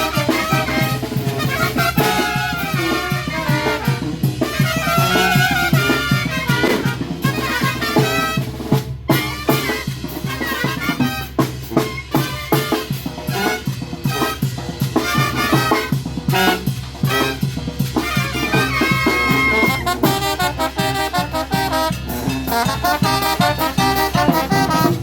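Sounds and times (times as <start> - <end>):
brass melody: 0.0 - 25.0
snare and bass drum beats: 0.0 - 25.0.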